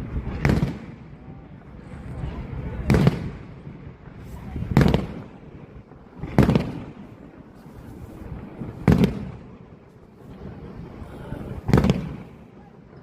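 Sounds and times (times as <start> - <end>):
fireworks bangs with rumbling echo: 0.0 - 13.0.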